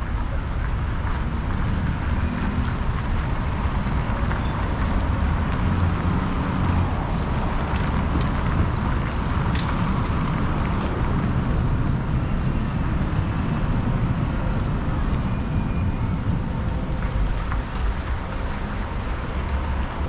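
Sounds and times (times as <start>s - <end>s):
passing traffic rumble: 0.0s - 20.0s.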